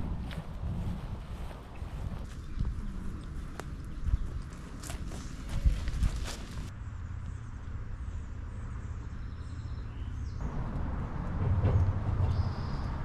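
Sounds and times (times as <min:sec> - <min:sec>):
steady low rumble: 0:00.0 - 0:09.2, 0:10.4 - 0:13.0.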